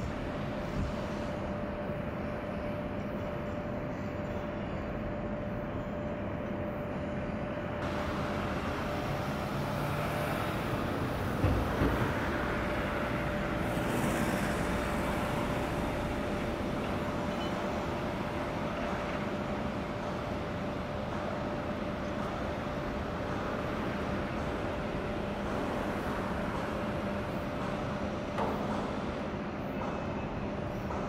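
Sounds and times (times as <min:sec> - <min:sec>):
machinery hum with pitched tone: 0:00.0 - 0:31.0.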